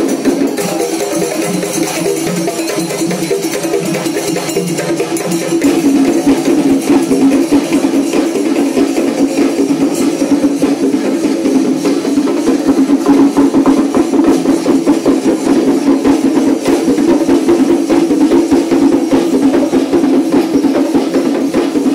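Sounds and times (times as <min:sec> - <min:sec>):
fast dense drumming: 0:00.0 - 0:21.9.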